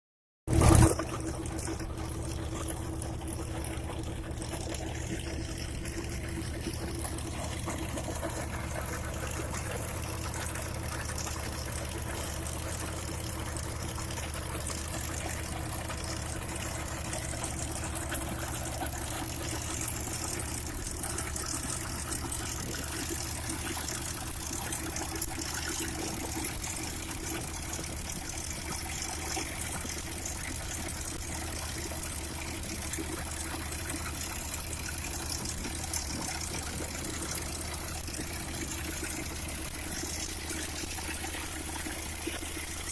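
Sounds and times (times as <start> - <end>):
trencher engine drone: 0.5 - 42.9.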